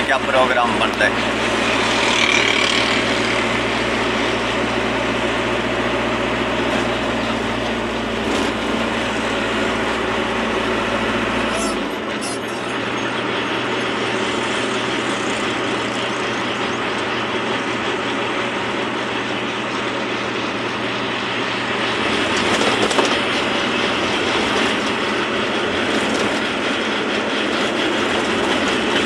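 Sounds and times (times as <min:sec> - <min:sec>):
road and cab rattle: 0:00.0 - 0:29.0
truck engine hum: 0:00.0 - 0:29.0.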